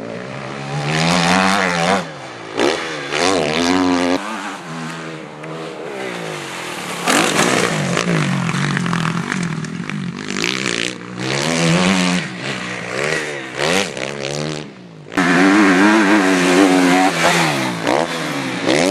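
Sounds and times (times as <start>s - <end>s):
motocross bike engine revving: 0.0s - 18.9s.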